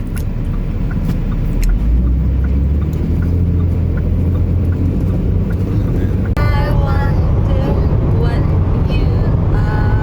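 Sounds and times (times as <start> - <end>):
car road noise rumble: 0.0 - 10.0.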